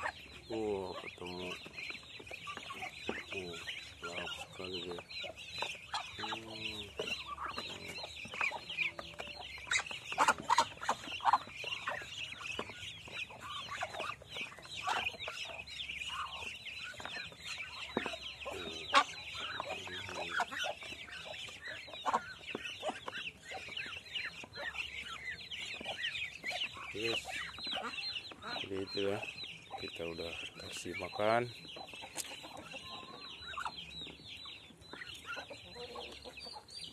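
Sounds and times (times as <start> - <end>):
high chirping chorus: 0.0 - 36.9.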